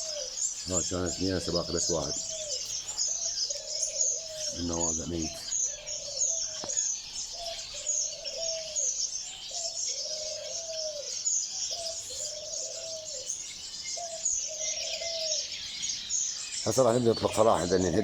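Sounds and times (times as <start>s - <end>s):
dove cooing: 0.0s - 18.0s
finches chittering: 0.0s - 18.0s.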